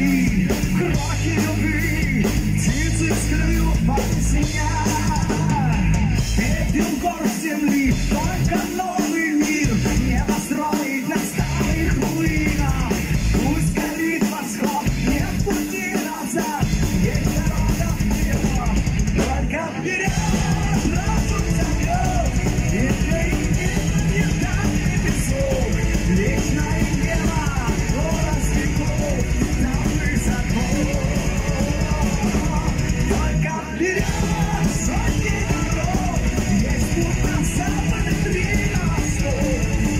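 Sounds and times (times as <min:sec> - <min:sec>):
bass guitar: 0:00.0 - 0:39.9
distorted electric guitars: 0:00.0 - 0:39.9
drum kit: 0:00.0 - 0:39.9
person singing: 0:00.0 - 0:39.9.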